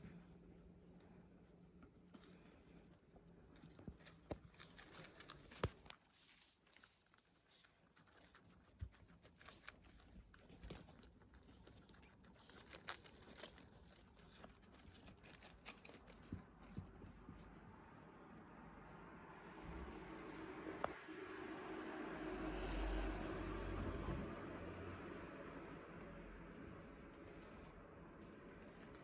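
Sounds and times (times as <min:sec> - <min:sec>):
guinea pigs crunching food: 0:00.0 - 0:29.0.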